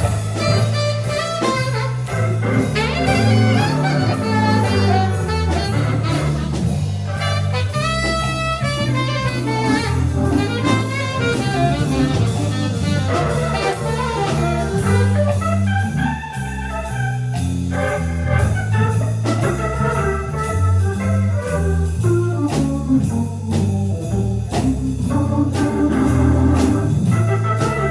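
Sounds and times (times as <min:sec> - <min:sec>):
bass line: 0:00.0 - 0:27.9
drums and cymbals: 0:00.0 - 0:27.9
jazz melody: 0:00.0 - 0:27.9.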